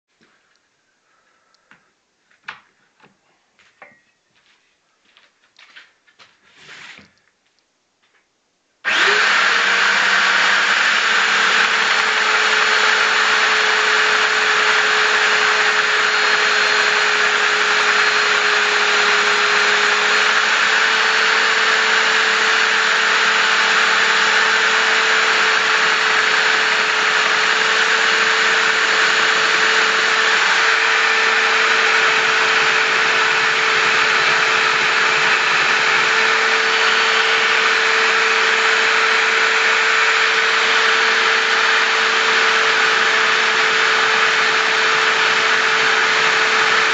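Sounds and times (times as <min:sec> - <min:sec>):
electric belt sander running: 0:08.9 - 0:46.9.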